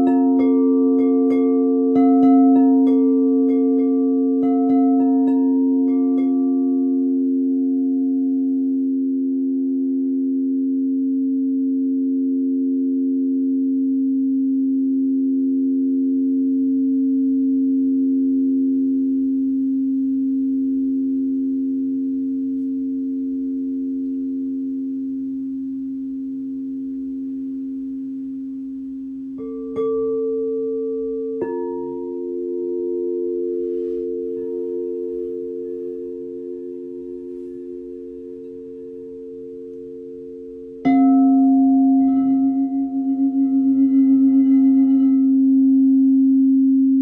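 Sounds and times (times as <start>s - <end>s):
singing bowl ringing: 0.0s - 47.0s.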